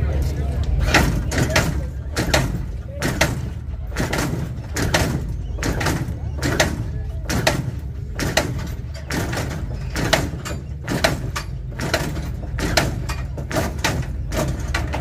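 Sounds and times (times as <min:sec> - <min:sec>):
hydraulics clanking: 0:00.0 - 0:15.0
steady low hum: 0:00.0 - 0:15.0.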